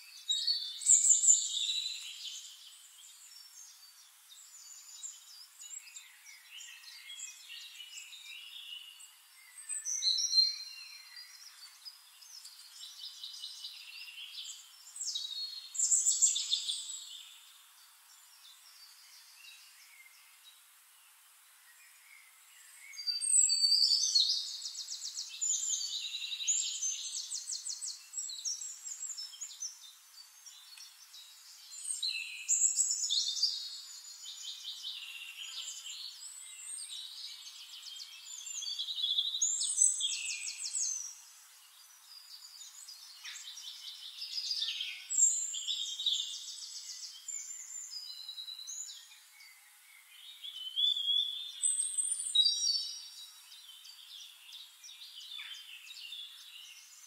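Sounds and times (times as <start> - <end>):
songbird trilling and chirping: 0.0 - 20.4, 21.9 - 57.0.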